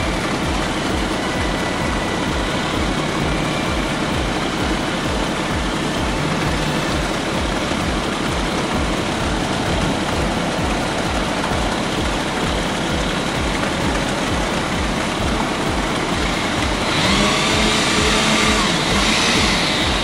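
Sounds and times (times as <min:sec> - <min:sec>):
heavy diesel engine throbbing: 0:00.0 - 0:20.0.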